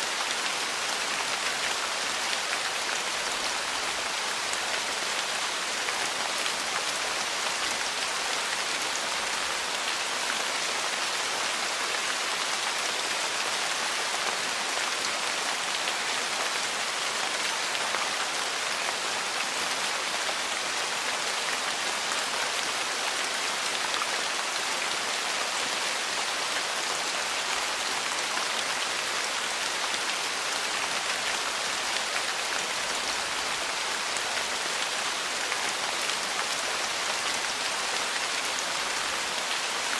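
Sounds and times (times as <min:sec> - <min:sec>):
rain falling on a porch: 0:00.0 - 0:39.9.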